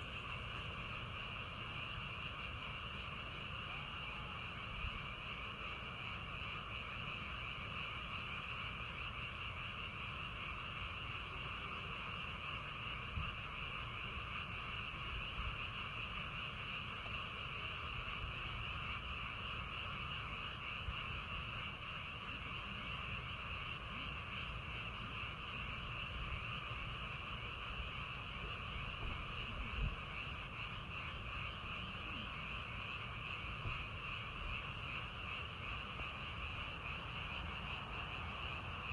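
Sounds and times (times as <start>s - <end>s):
frogs trilling: 0.0s - 38.9s.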